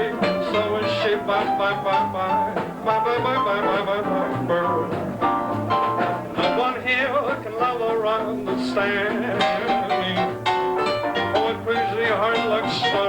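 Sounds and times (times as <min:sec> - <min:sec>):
small jazz band playing: 0:00.0 - 0:13.0.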